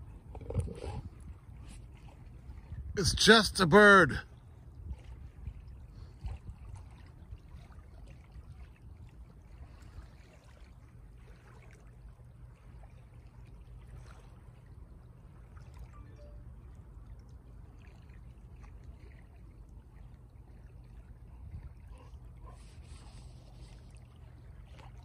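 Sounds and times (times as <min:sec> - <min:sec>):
small waves lapping: 0:00.0 - 0:25.0.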